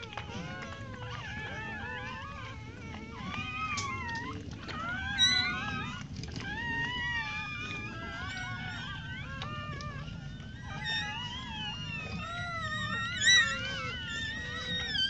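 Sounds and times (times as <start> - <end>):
puppies squeaking and whining: 0.0 - 15.0
puppy yelp: 0.0 - 15.0.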